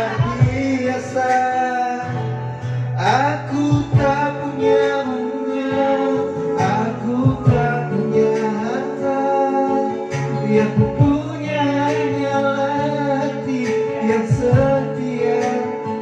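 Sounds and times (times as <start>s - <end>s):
guitar accompaniment: 0.0s - 16.0s
slow sung ballad: 0.0s - 16.0s.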